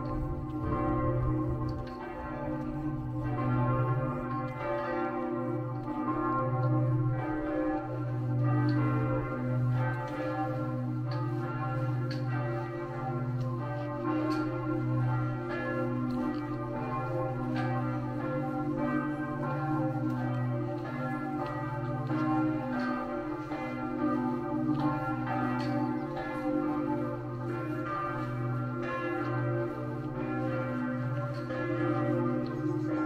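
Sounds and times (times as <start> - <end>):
bells ringing: 0.0 - 33.0.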